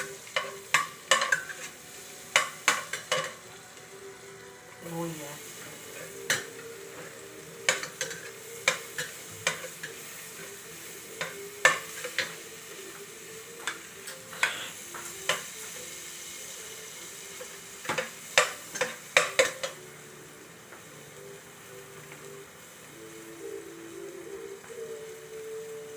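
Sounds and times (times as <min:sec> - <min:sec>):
onion sizzling in a pan: 0:00.0 - 0:25.9.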